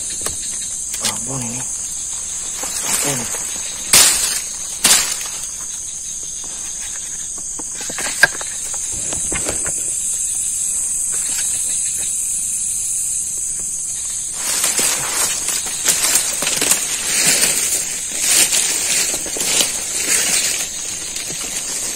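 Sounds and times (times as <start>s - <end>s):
night insects droning: 0.0s - 21.9s.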